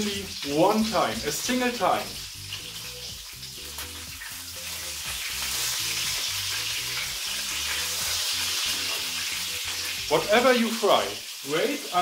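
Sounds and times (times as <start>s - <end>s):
patties sizzling in hot oil: 0.0s - 12.0s.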